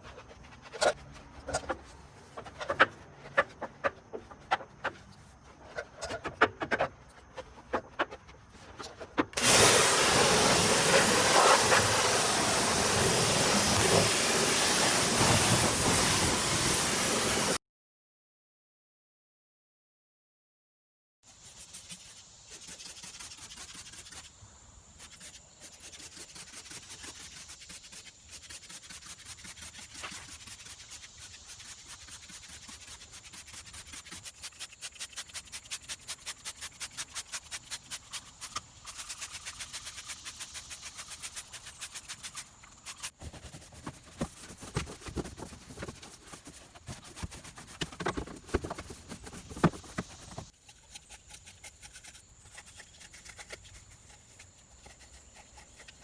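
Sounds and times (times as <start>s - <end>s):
stiff brush scrubbing wheel: 0.0s - 17.6s, 25.0s - 56.0s.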